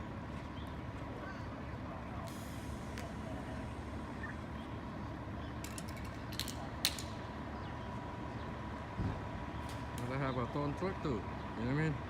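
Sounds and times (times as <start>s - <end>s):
steady low street rumble: 0.0s - 12.0s.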